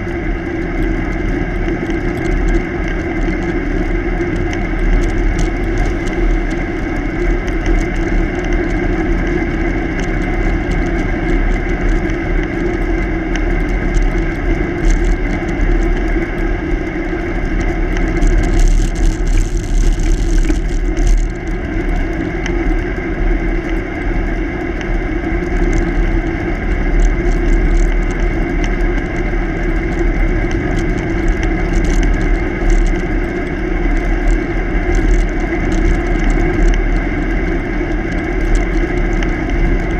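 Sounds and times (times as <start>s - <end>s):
steady hum: 0.0s - 39.9s
wind and tyre rumble: 0.0s - 39.9s.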